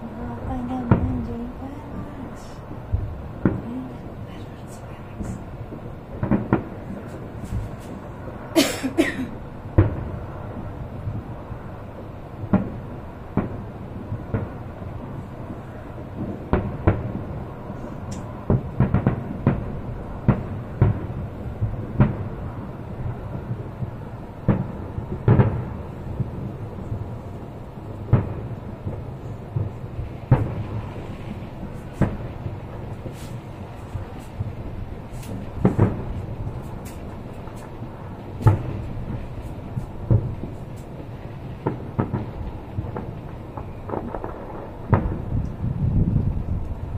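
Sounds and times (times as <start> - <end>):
fireworks booming and popping: 0.0 - 46.9.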